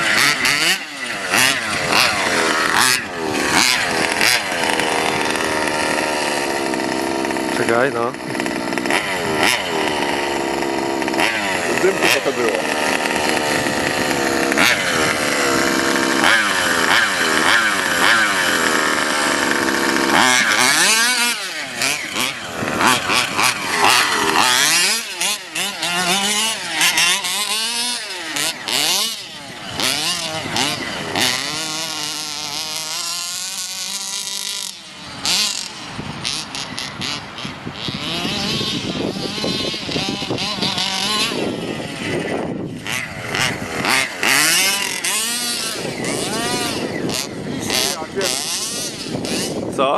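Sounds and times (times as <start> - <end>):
rc truck engine revving: 0.0 - 49.9.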